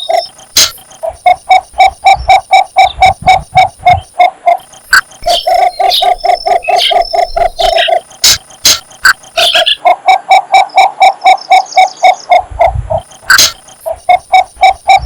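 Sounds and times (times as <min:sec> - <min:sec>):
bird croaking call: 0:00.0 - 0:15.0.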